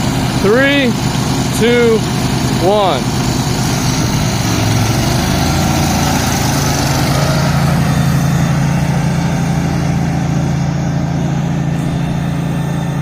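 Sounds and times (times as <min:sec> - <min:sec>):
garden tractor engines running: 0:00.0 - 0:13.0.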